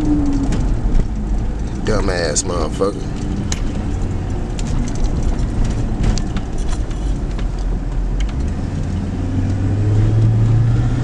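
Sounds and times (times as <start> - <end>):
engine and road rumble: 0.0 - 11.0
light clicks and rattles: 0.1 - 9.0.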